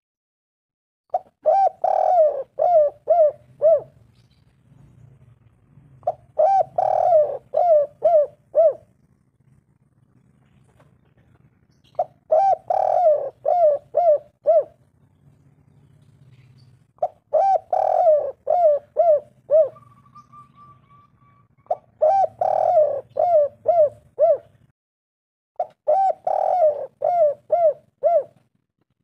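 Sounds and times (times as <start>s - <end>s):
dove cooing: 1.1s - 4.1s, 6.0s - 15.0s, 16.1s - 24.7s, 25.6s - 28.5s.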